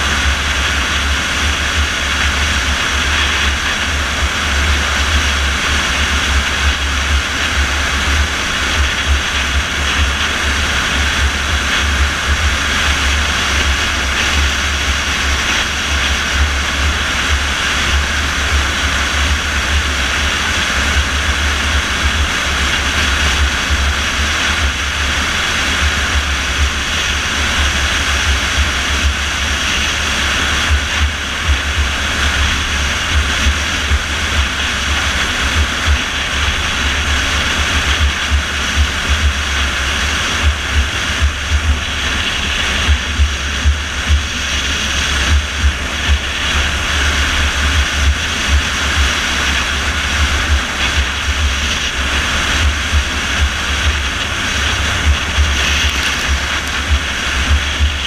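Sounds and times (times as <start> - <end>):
car engine and road drone: 0.0 - 58.0
tyre and wind hiss: 0.0 - 58.0.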